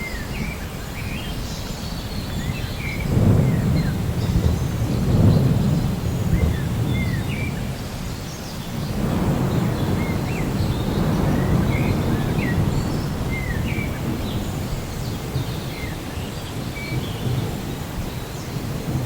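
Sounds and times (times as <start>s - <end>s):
rain: 0.0s - 19.0s
birds chirping and whistling: 2.2s - 18.8s
distant thunder rumble: 2.2s - 19.0s.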